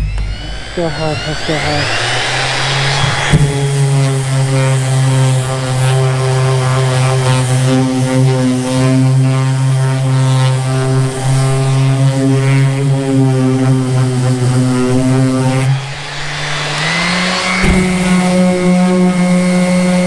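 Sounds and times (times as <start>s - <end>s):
orbital sander motor hum: 0.0s - 20.0s.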